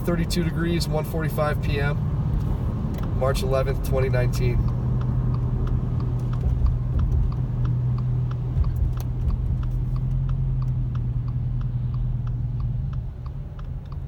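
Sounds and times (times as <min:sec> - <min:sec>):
light regular ticking: 0:00.0 - 0:14.0.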